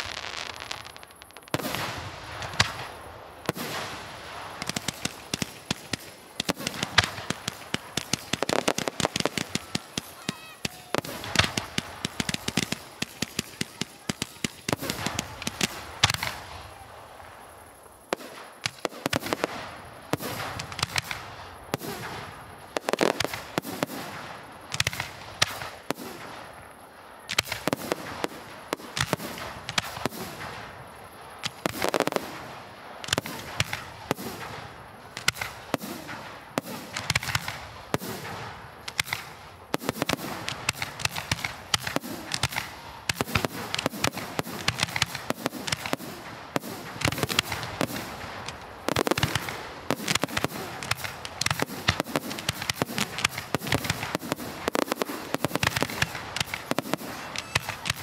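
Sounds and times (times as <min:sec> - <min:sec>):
firework shells bursting: 0:00.0 - 0:16.8, 0:17.4 - 0:58.0.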